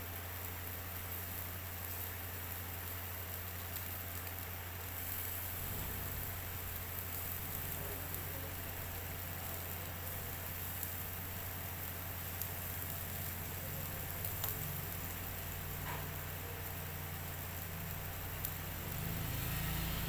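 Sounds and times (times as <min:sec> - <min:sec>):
meat sizzling on grill: 0:00.0 - 0:20.0.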